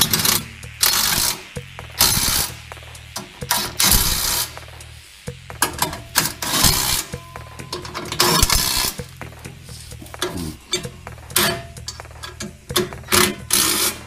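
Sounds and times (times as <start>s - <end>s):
cordless power driver running bolts: 0.0s - 14.0s.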